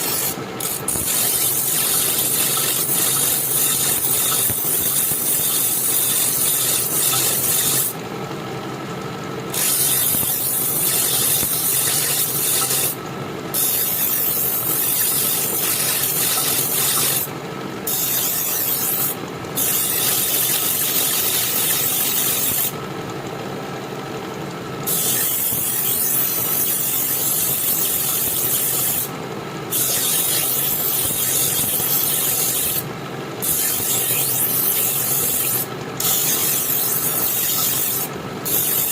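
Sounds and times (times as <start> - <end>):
abrasive scraping on knife blade: 0.0 - 8.0, 9.5 - 13.0, 13.6 - 17.3, 17.9 - 22.7, 24.9 - 29.1, 29.7 - 38.9
steady hum: 0.0 - 38.9.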